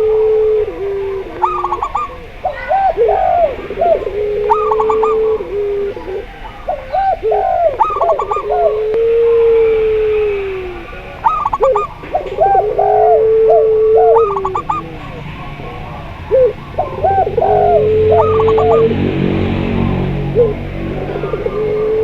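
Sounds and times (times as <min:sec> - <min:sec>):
doves cooing: 0:00.0 - 0:22.0.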